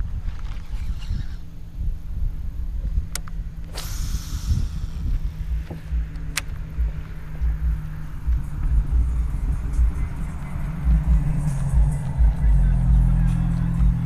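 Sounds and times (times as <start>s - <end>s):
faint steady hum: 0.0s - 14.0s
wind buffeting microphone: 0.0s - 14.0s.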